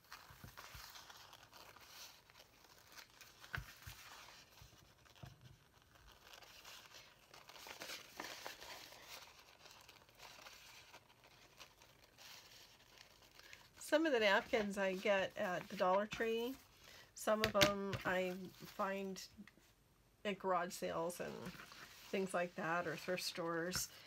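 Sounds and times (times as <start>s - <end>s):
paper rustling: 0.0s - 18.9s, 21.2s - 24.0s.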